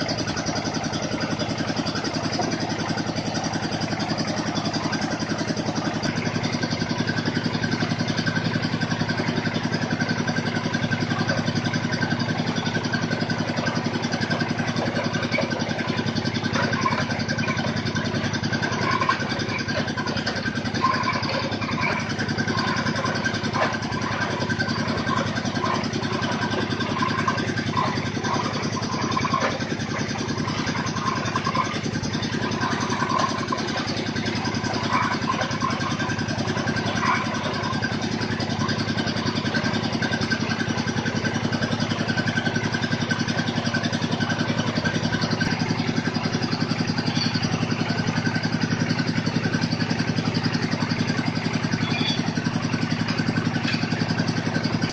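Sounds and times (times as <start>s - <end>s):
drilling machine engine running: 0.0s - 54.9s.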